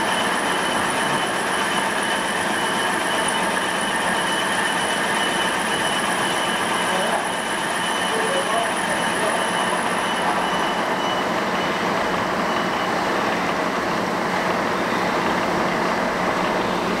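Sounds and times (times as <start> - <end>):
machine motor whirring with whine: 0.0 - 17.0.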